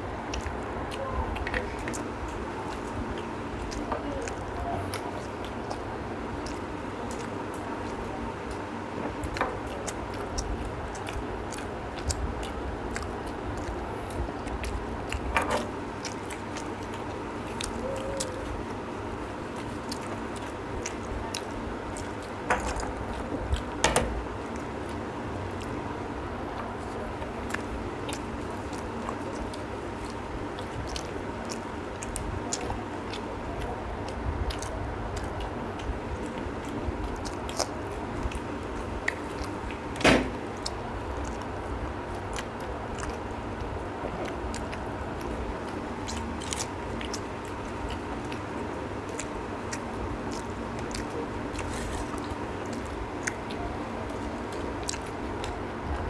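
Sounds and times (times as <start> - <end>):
people chewing: 0.0 - 56.0
steady hum: 0.0 - 56.0.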